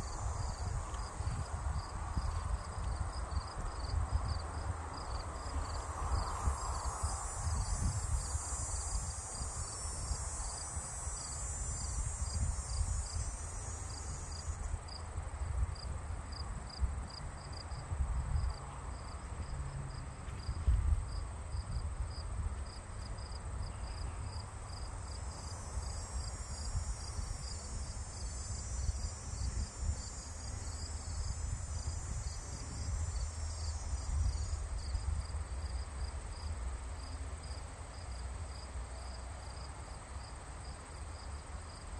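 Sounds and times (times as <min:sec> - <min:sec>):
high insect hiss: 0:00.0 - 0:41.9
insects chirping: 0:00.0 - 0:41.9.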